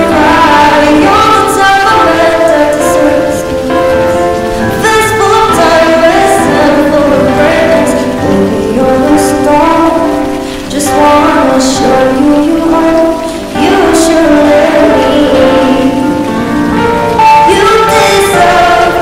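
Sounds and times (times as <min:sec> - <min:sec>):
backing music: 0:00.0 - 0:19.0
rain: 0:00.0 - 0:19.0
woman singing pop song: 0:00.0 - 0:19.0.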